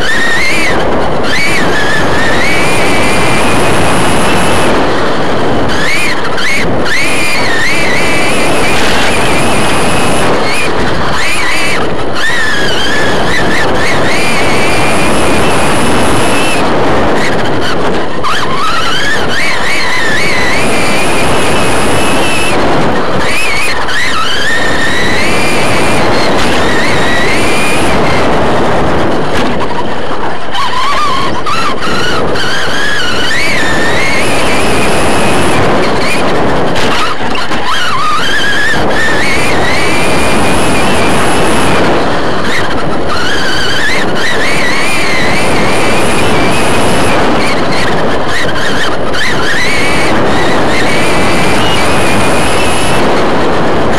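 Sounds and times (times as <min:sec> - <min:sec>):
rc truck motor whining: 0:00.0 - 0:53.9
rushing wind: 0:00.0 - 0:53.9.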